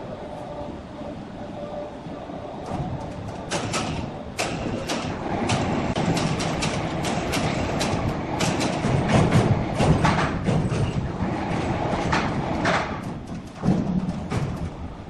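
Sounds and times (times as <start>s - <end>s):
crane mechanical rumble: 0.0s - 15.0s
clicks and knocks: 2.7s - 14.9s.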